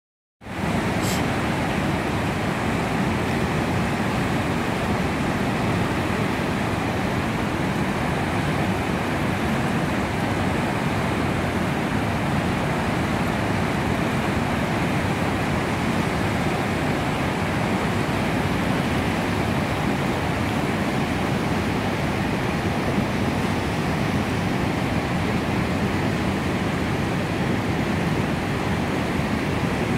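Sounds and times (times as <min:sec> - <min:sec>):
whitewater rapids rushing: 0:00.5 - 0:29.9.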